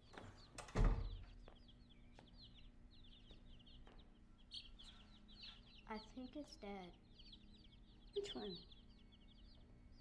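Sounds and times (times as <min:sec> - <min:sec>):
baby chicks peeping: 0:00.0 - 0:10.0.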